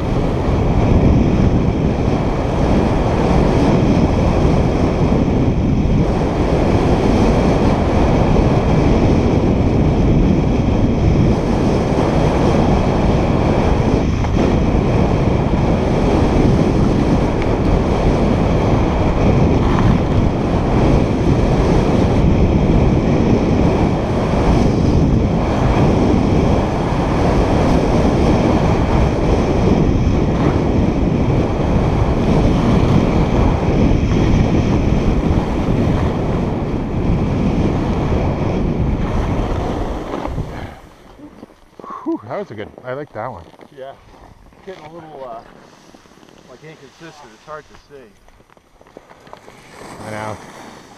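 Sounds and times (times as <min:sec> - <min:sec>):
skis scraping over snow: 0:00.0 - 0:50.9
wind rush on microphone: 0:00.0 - 0:50.9.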